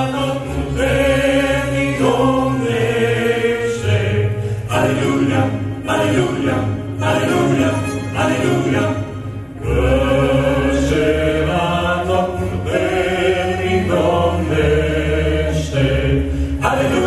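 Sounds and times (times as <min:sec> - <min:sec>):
male vocal quartet singing chords: 0:00.0 - 0:17.0.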